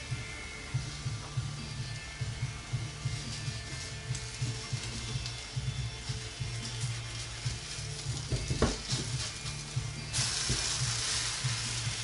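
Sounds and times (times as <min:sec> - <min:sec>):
batter sizzling in frying pan: 0:00.0 - 0:12.0.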